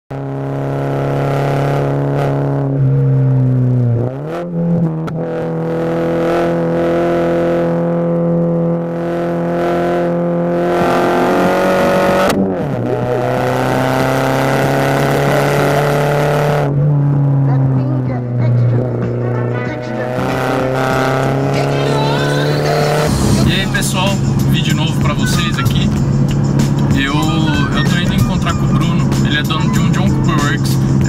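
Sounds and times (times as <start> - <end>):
car engine inside cabin: 0.1 - 31.0.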